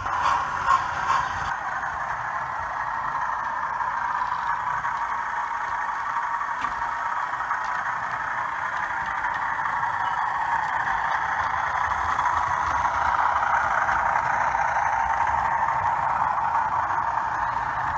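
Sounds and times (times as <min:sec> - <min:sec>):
model train whirring on track: 0:00.0 - 0:17.9.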